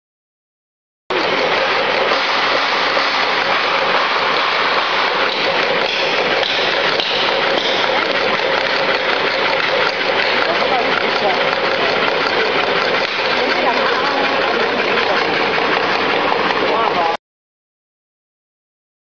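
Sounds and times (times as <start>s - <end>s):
slicing machine running: 1.1s - 17.2s.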